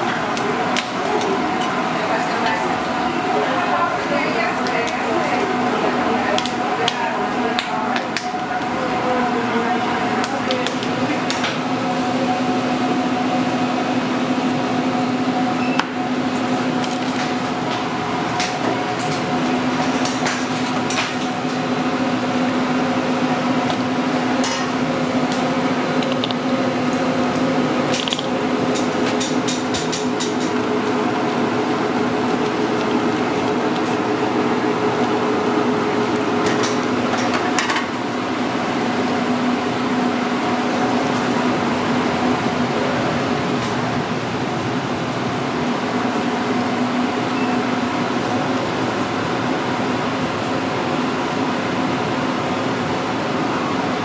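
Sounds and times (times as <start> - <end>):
kitchen ventilation hum: 0.0 - 54.0.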